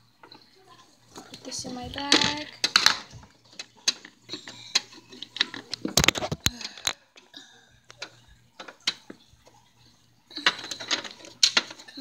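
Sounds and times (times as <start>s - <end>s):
plastic toys clicking and tapping: 0.2s - 12.0s.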